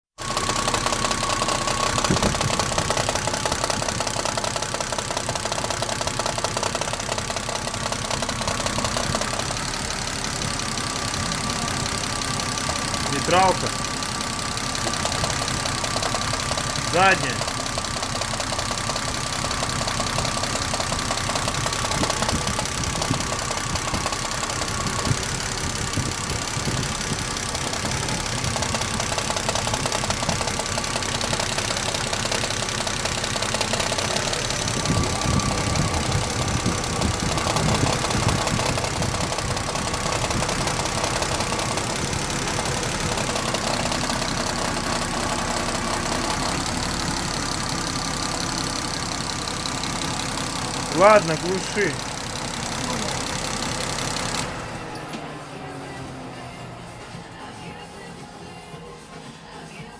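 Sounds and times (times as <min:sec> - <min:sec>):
engine knocking: 0:00.0 - 0:57.8
car engine running: 0:00.0 - 0:59.9.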